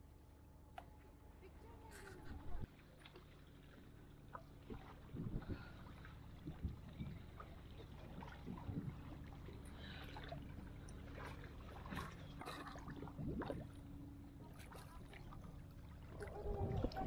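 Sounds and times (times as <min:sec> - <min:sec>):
seawater sloshing and lapping: 0:02.1 - 0:17.0
small splashes: 0:02.6 - 0:17.0.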